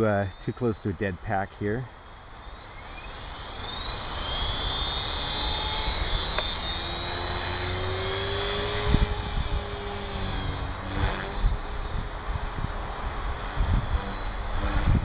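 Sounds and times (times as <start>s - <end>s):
rc helicopter motor whine: 1.8s - 15.0s
rotor whir: 1.9s - 15.0s.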